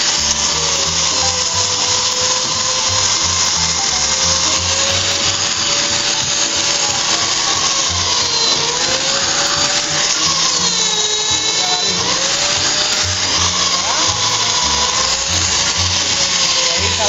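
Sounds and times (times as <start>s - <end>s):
floor polisher grinding hiss: 0.0s - 17.0s.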